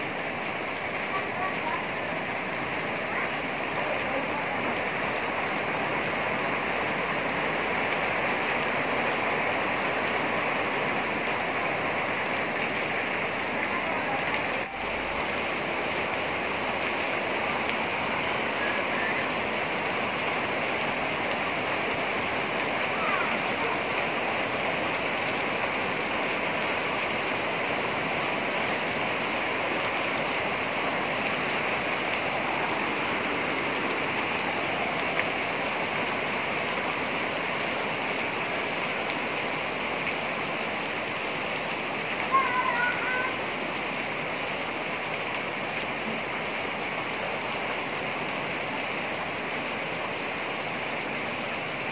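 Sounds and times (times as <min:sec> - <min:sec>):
heavy rain on a tile roof: 0:00.0 - 0:51.9.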